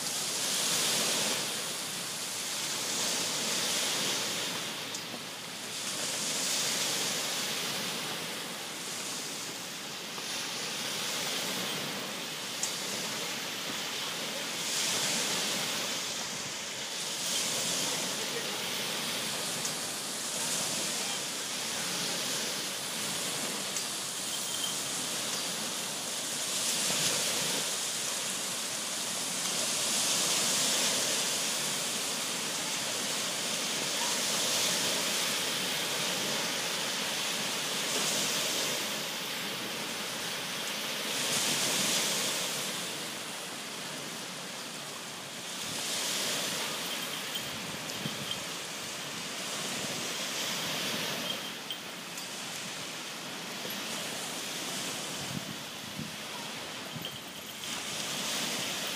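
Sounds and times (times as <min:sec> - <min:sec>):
waves washing onto sandy shore: 0:00.0 - 0:58.9.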